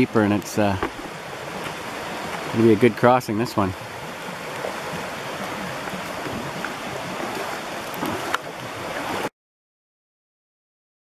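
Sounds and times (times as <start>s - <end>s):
rain falling: 0.0s - 9.3s
river rushing over gravel: 0.0s - 9.3s.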